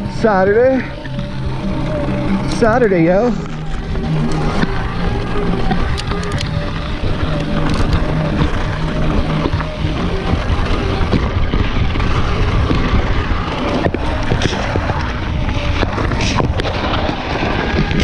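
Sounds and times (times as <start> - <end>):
faint music: 0.0 - 18.0
wind buffeting microphone: 0.0 - 18.0.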